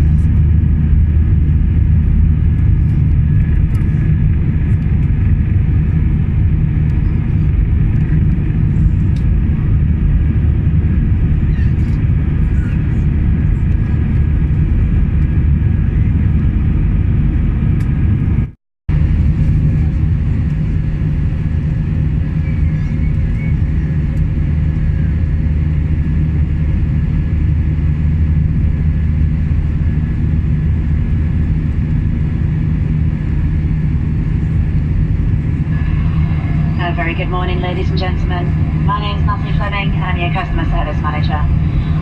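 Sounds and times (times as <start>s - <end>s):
airliner cabin rumble: 0.0s - 42.0s.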